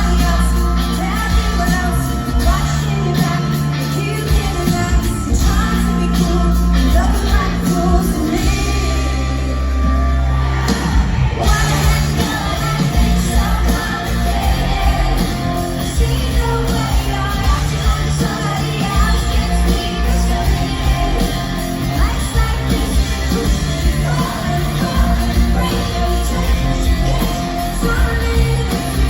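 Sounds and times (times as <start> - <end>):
live pop rock band: 0.0 - 29.0.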